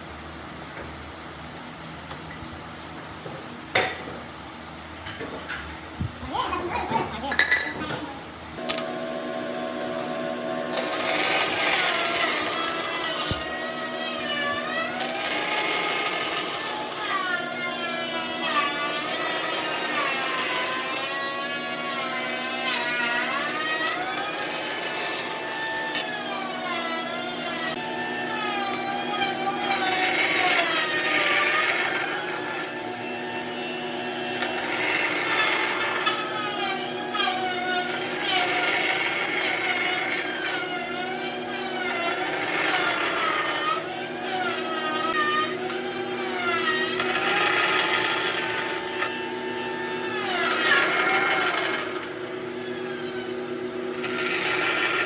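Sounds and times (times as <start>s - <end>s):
power tool working wood: 8.6s - 55.0s.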